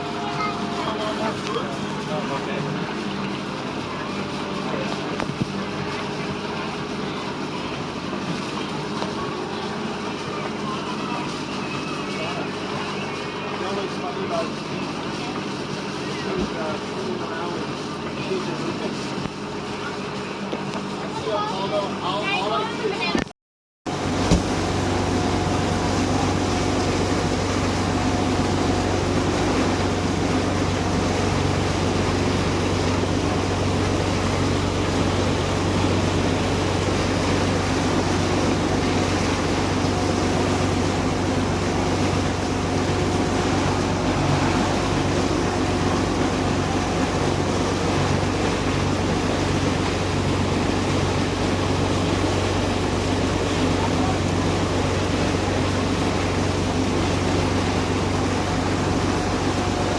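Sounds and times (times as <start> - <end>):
boat engine droning: 0.0 - 23.2, 23.9 - 59.9.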